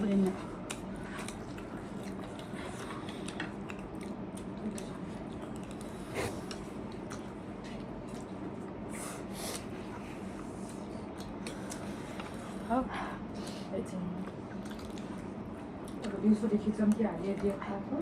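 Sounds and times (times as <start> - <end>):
people chewing and biting food: 0.0 - 18.0
steady low hum: 0.0 - 18.0.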